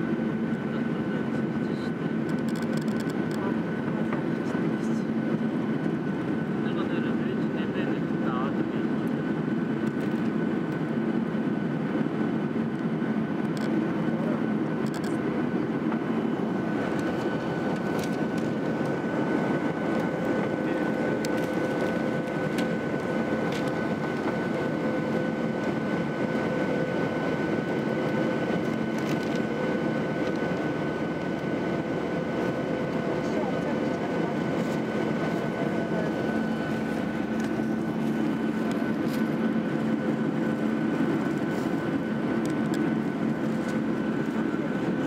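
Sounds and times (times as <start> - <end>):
jet engines droning: 0.0 - 45.0
thin steady whine: 0.0 - 45.0.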